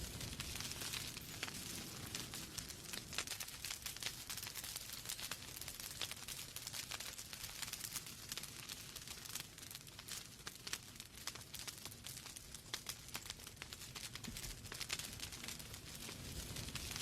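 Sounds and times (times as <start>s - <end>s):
logs crackling and popping: 0.0s - 17.0s
low rumble of flame: 0.0s - 17.0s.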